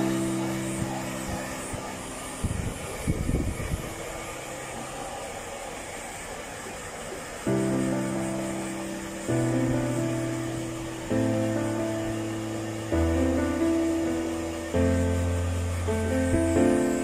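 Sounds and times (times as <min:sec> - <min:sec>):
background music with held chord: 0:00.0 - 0:06.2, 0:07.3 - 0:17.0
hair dryer blowing: 0:00.0 - 0:17.0.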